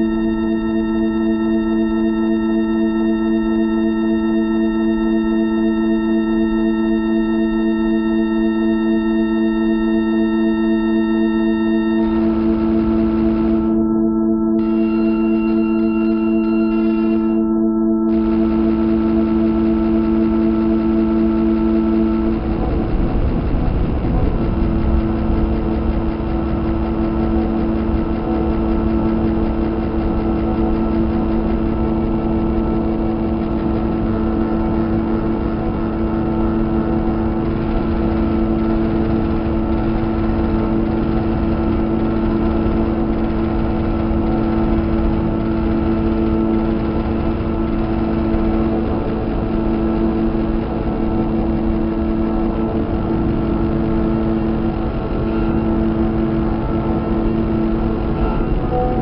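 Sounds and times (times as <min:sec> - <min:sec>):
mechanical drone with hum tones: 0:00.0 - 0:59.0.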